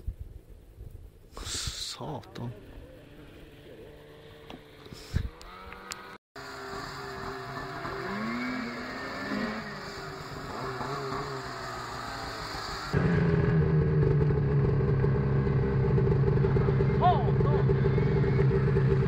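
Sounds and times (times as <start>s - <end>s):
snowmobile engines revving: 2.3s - 19.0s.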